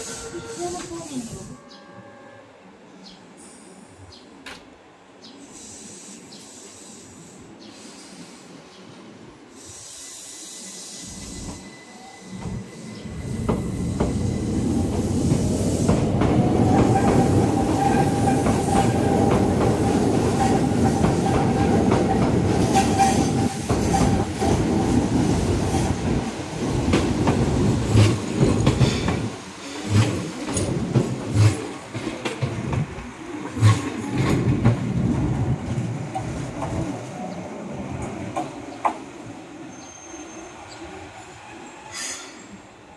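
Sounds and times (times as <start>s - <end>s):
electric trains rumbling: 0.0s - 42.9s.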